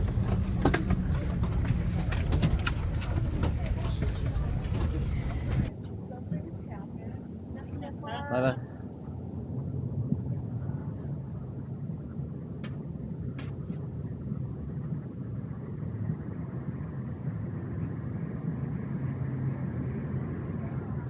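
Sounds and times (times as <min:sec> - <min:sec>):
airliner and airport rumble: 0:00.0 - 0:21.0.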